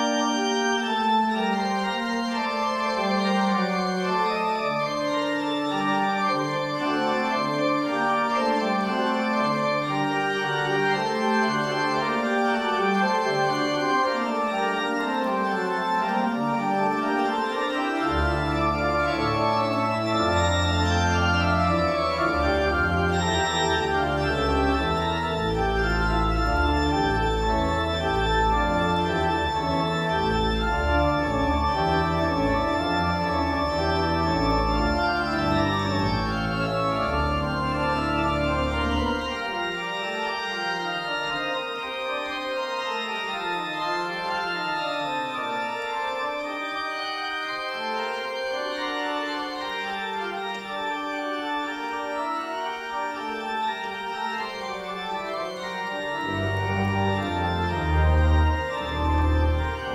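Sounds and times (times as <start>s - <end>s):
church organ playing: 0.0s - 59.9s.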